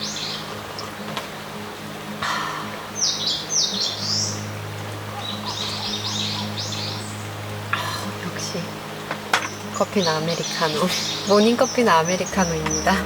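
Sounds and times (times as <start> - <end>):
small songbirds singing: 0.0 - 13.0.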